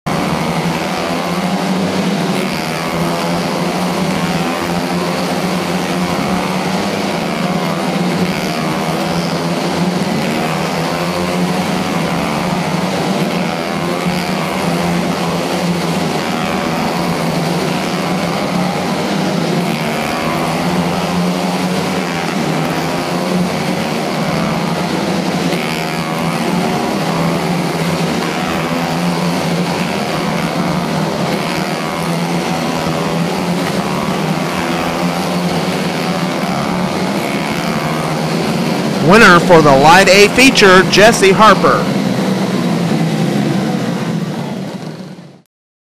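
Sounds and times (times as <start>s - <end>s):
small race car engines: 0.1s - 45.4s.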